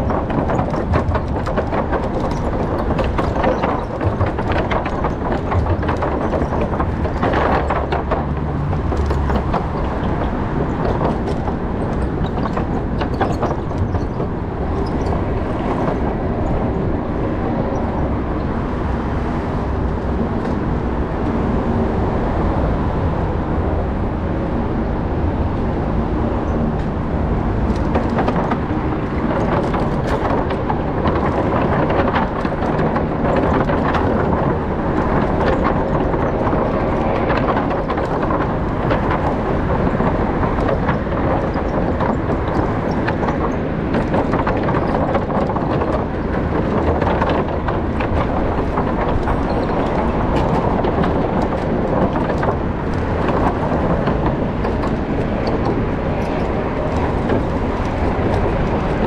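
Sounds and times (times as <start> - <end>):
tyres knocking on plank joints: 0.0 - 16.7, 27.7 - 59.0
bicycle rolling over wooden deck: 0.0 - 20.7, 26.2 - 59.0.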